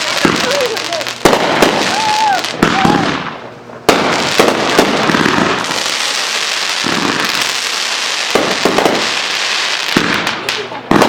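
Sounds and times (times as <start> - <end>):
firework bangs: 0.0 - 11.0
fireworks crackling: 0.0 - 11.0.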